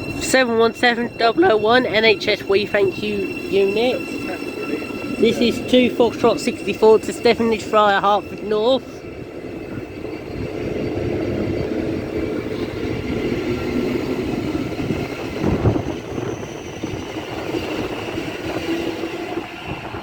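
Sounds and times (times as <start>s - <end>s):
train motors humming: 0.0s - 20.0s.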